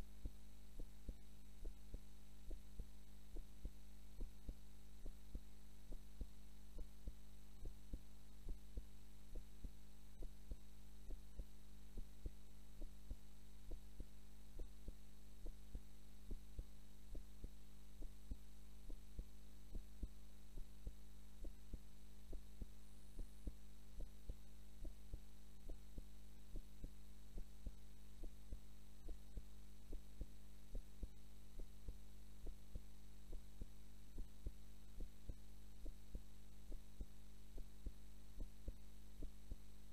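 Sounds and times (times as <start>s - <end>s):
human heartbeat: 0.0s - 39.9s
steady low hum: 0.0s - 39.9s.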